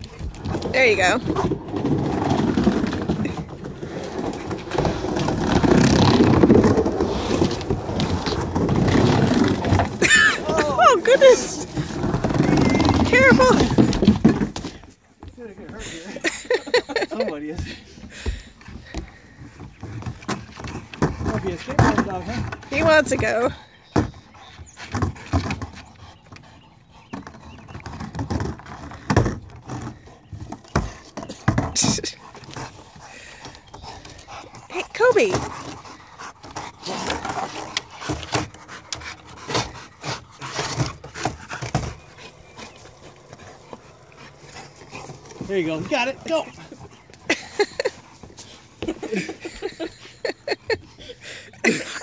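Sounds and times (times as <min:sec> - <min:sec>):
skateboard wheels rolling on wood: 0:00.0 - 0:52.0.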